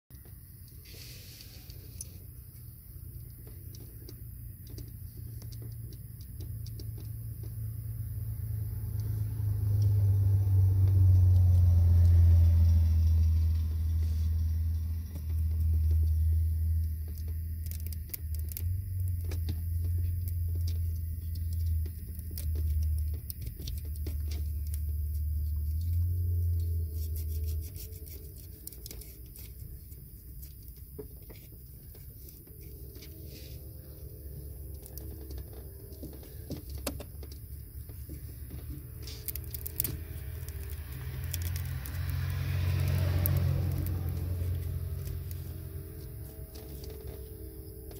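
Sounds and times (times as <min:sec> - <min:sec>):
low vehicle-like rumble: 0:00.1 - 0:47.9.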